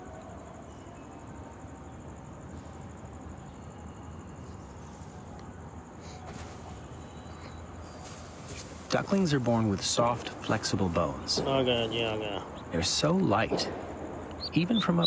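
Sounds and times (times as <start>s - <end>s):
low background hum: 0.0s - 15.0s
high-pitched insect trill: 0.4s - 13.2s.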